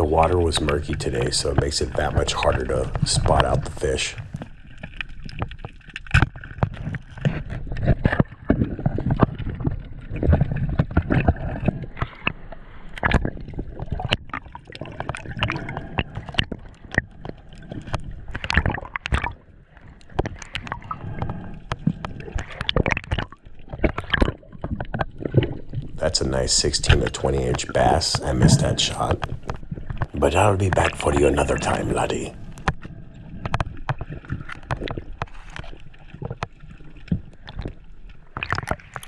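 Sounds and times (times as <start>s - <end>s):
water gurgling underwater: 0.0s - 39.0s.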